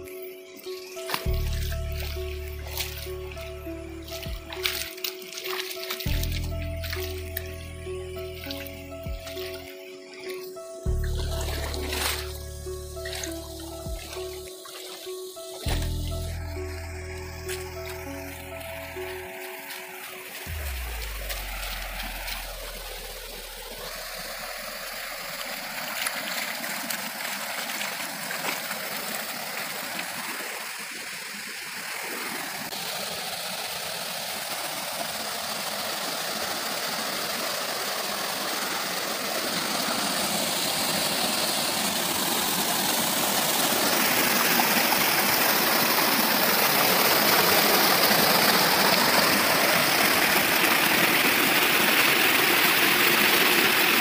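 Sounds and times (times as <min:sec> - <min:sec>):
stream rushing over rocks: 0:00.0 - 0:16.3, 0:17.2 - 0:54.0.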